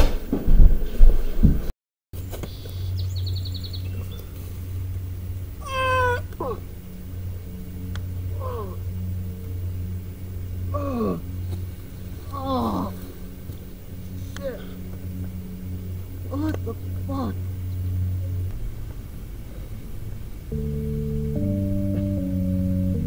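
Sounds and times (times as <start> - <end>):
low steady hum: 2.2 - 23.0.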